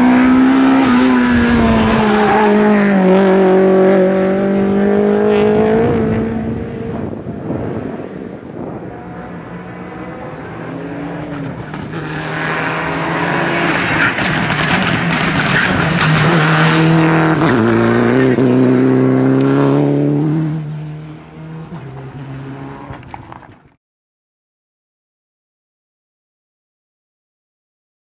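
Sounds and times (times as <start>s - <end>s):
rally car engine passing by: 0.0s - 23.7s.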